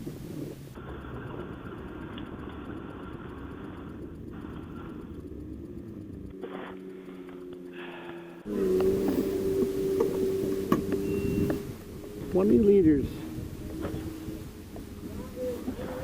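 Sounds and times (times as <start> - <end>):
snowmobile engine rumbling: 0.0 - 16.0
steady engine hum: 0.0 - 16.0.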